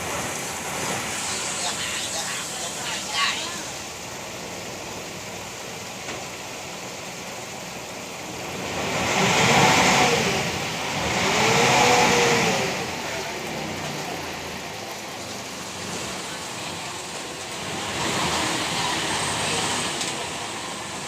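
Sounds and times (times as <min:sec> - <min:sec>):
motorboat engine: 0:00.0 - 0:21.0
water rushing: 0:00.0 - 0:21.0
wind: 0:00.0 - 0:21.0.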